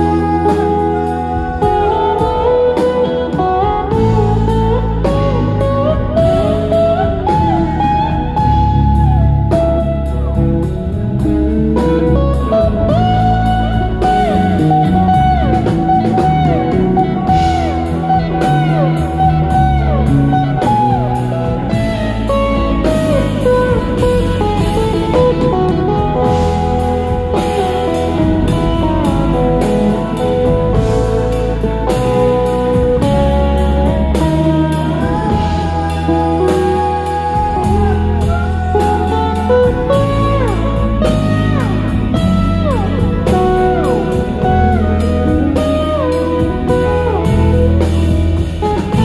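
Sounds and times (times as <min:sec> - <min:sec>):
drum kit: 0:00.0 - 0:49.0
electric bass: 0:00.0 - 0:49.0
pedal steel guitar lead: 0:00.0 - 0:49.0.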